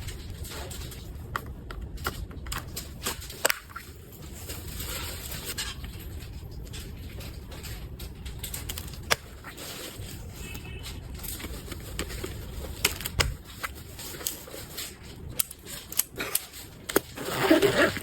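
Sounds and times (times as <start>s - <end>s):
packaging rustling: 0.0s - 18.0s.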